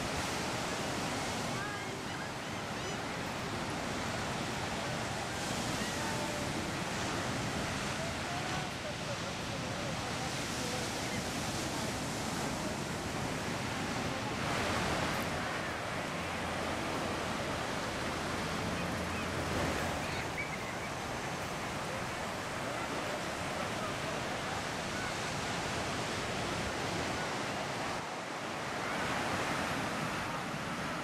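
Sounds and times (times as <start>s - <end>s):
ocean surf breaking: 0.0s - 31.0s
wind: 0.0s - 31.0s.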